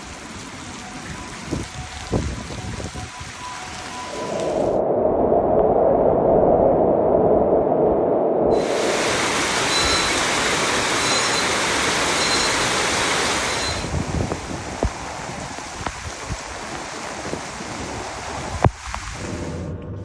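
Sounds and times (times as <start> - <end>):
rushing storm noise: 0.0 - 20.0.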